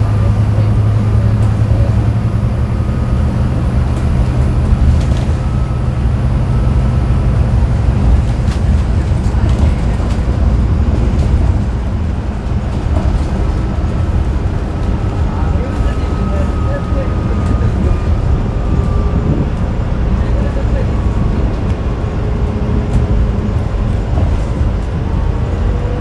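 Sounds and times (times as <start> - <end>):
bus engine drone: 0.0 - 26.0
road noise: 0.0 - 26.0.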